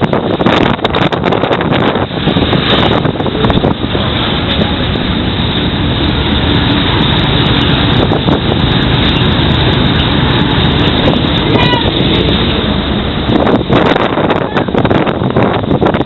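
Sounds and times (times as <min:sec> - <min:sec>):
loud engine noise: 0:00.0 - 0:16.0
wind buffeting microphone: 0:00.0 - 0:16.0.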